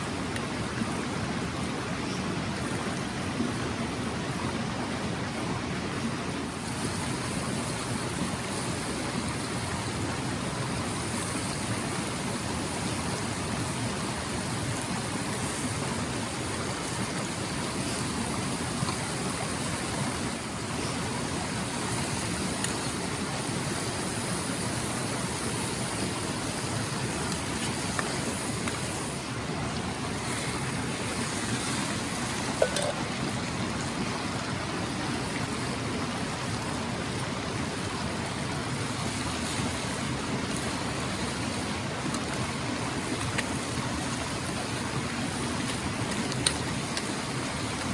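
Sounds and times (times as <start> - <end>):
stream rushing over rocks: 0.0 - 47.9.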